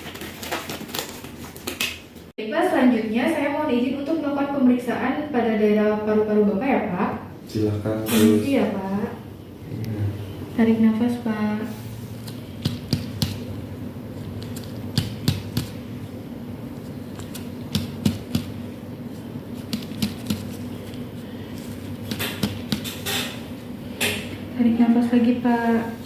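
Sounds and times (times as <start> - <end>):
steady low hum: 2.2 - 26.0.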